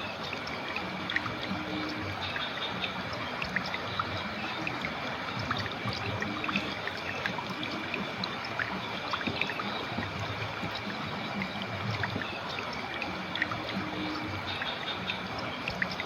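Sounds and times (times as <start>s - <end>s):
river flowing over stones: 0.0s - 16.0s.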